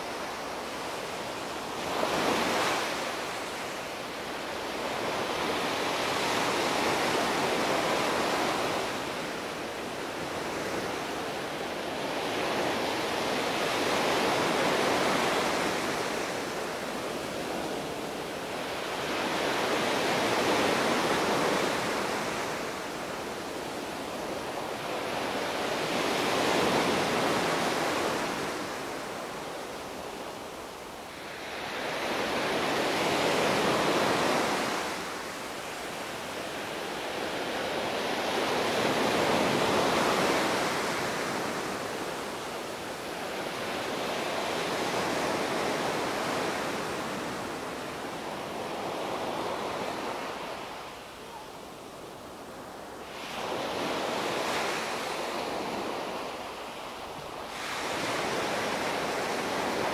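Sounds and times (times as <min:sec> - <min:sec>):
waves washing on sandy beach: 0:00.0 - 0:59.9.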